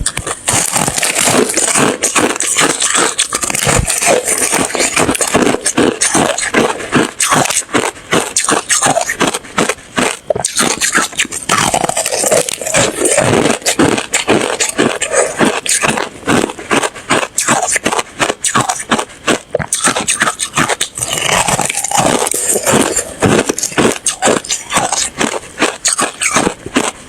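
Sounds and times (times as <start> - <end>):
ice being chewed: 0.0 - 27.0.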